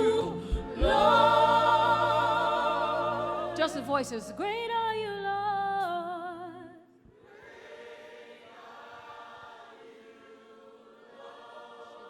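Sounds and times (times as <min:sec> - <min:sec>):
congregation singing a cappella: 0:00.0 - 0:04.8, 0:05.7 - 0:12.0.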